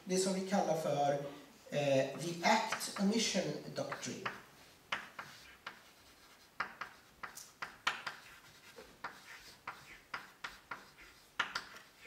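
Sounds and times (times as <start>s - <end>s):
chalk tapping and scraping on blackboard: 2.2s - 12.0s.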